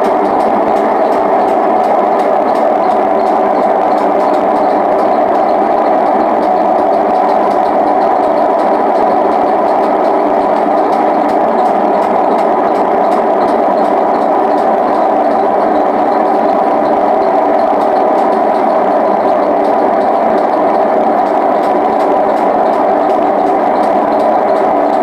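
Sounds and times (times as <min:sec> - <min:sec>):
washing machine spinning: 0:00.0 - 0:25.0.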